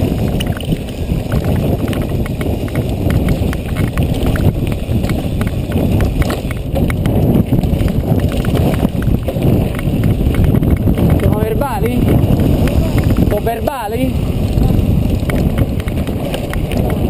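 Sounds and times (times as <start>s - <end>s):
bike and camera rattling: 0.0s - 17.0s
bike tyres rumbling on dirt: 0.0s - 17.0s.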